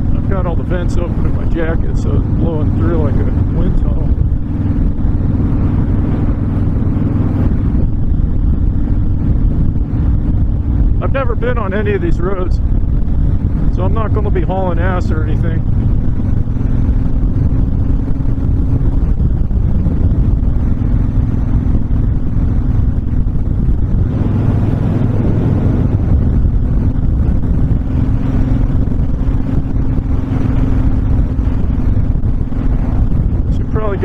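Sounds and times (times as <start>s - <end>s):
motorcycle engine cruising: 0.0s - 34.0s
wind rushing over microphone: 0.0s - 34.0s.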